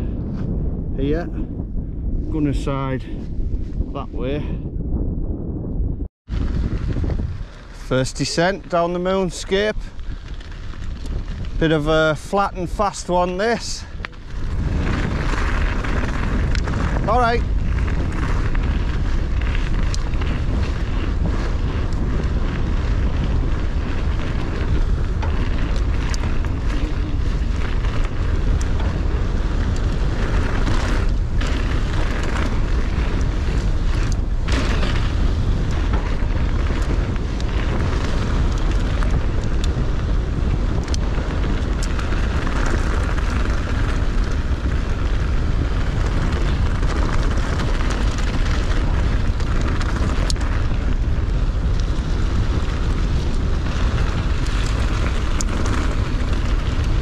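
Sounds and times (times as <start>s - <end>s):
wind buffeting microphone: 0.0s - 57.0s
bike clicks and rattles: 6.3s - 57.0s.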